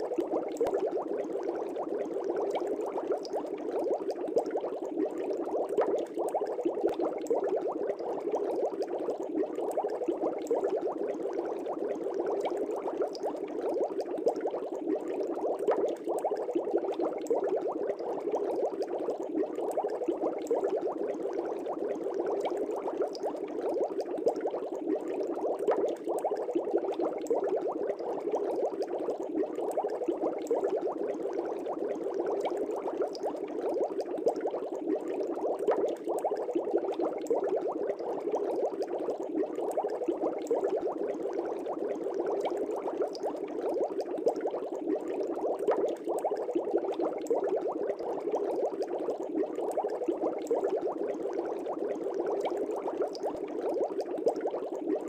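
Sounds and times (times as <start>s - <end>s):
aquarium air bubbling: 0.0s - 55.0s.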